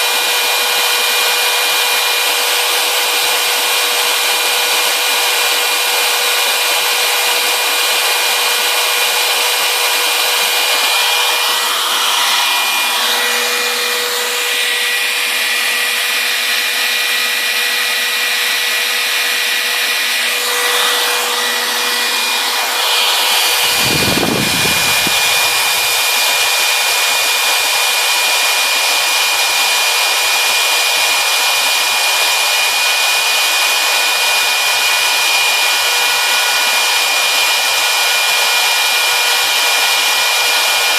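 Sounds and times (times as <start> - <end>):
spiral saw high whine cutting: 0.0 - 40.9.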